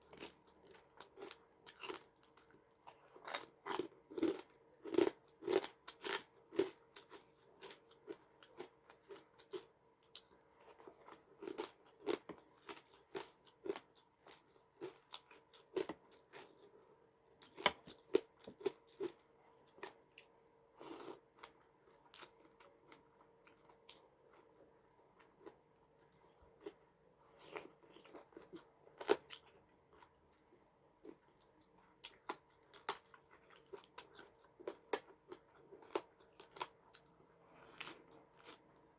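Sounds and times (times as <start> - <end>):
person chewing crunchy food: 0.0 - 16.8, 17.4 - 30.2, 31.0 - 38.9.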